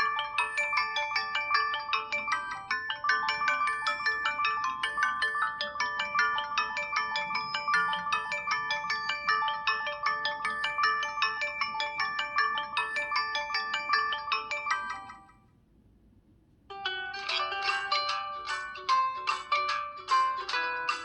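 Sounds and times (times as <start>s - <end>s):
phone ringtone electronic melody: 0.0s - 15.5s, 16.7s - 21.0s.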